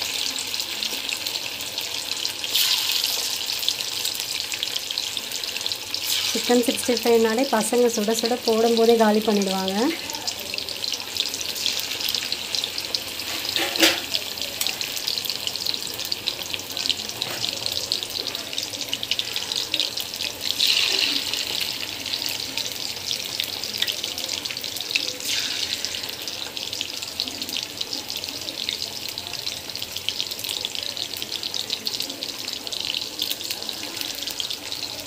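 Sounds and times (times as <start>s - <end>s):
food deep-frying in hot oil: 0.0s - 35.0s.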